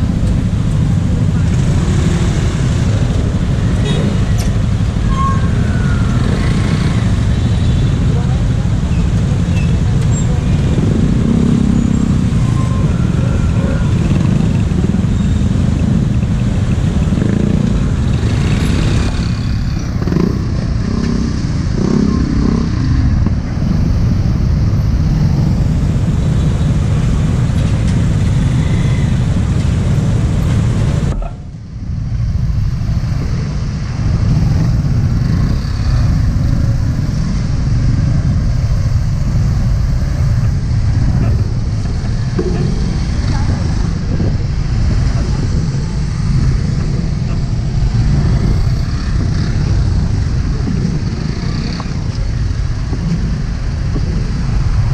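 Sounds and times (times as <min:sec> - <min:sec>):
road traffic rumble: 0:00.0 - 0:54.9.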